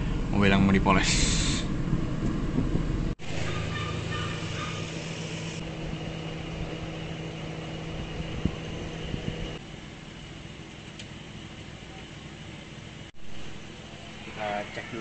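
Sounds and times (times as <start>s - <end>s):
idling car engine hum: 0.0s - 15.0s.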